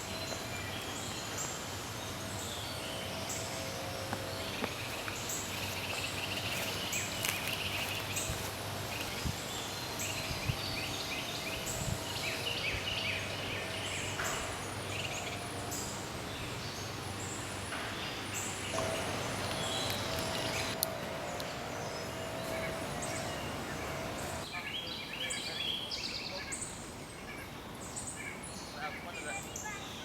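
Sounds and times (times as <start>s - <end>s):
birds chirping and trilling: 0.0s - 30.0s.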